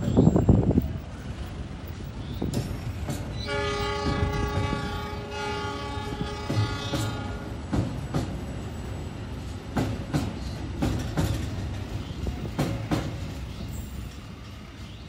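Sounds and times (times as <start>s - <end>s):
train rolling past: 0.0s - 15.0s
wheels clacking over rail joints: 1.0s - 15.0s.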